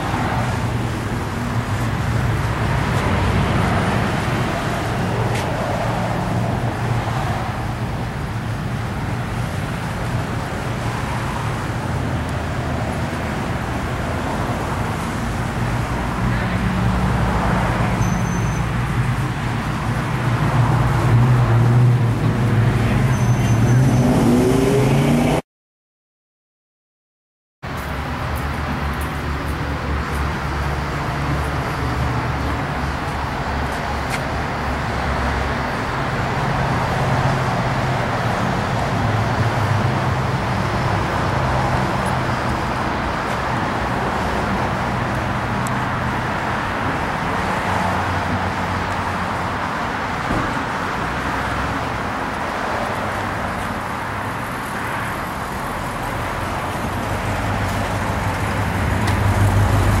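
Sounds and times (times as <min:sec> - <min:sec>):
road noise: 0:00.0 - 0:25.4, 0:27.6 - 1:00.0.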